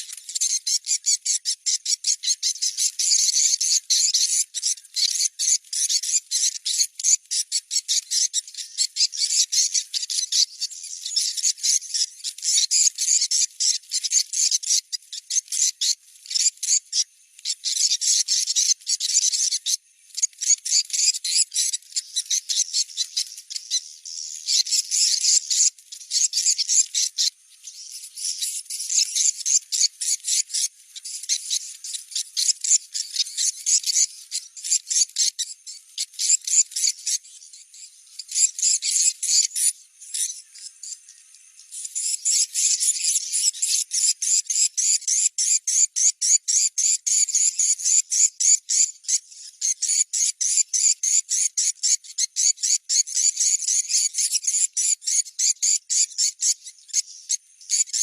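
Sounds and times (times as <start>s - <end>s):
swiftlet chirping twitters: 0.0s - 57.0s.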